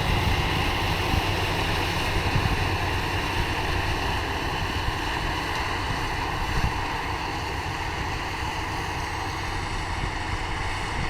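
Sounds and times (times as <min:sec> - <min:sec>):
farm machinery running: 0:00.0 - 0:11.0
wind rumbling on microphone: 0:00.0 - 0:11.0.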